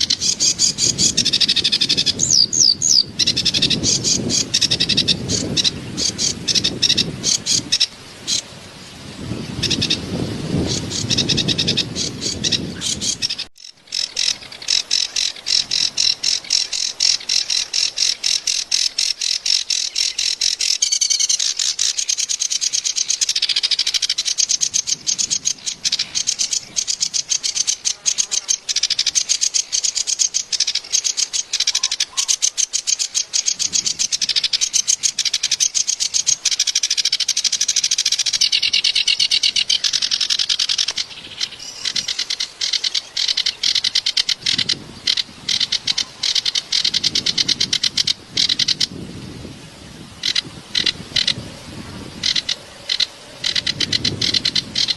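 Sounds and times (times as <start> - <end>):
reed warbler chattering song: 0.0 - 54.9.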